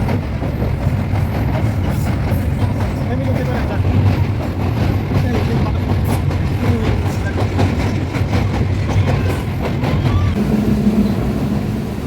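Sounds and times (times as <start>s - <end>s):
wheels clacking over rail joints: 0.0s - 10.4s
train rumbling: 0.0s - 12.0s.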